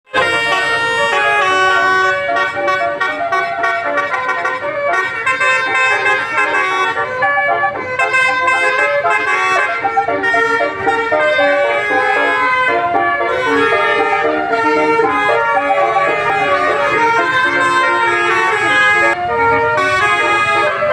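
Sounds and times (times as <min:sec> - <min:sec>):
multi-tone bus horn tune: 0:00.0 - 0:20.9.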